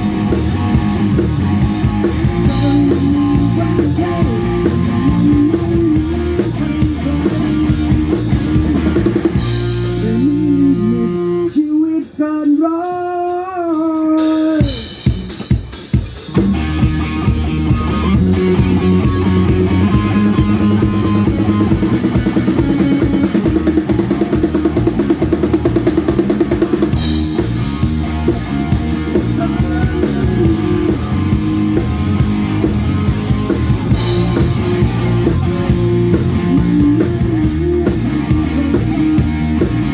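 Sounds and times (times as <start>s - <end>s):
electric guitar: 0.0s - 12.5s, 14.2s - 39.9s
drum kit: 0.0s - 39.9s.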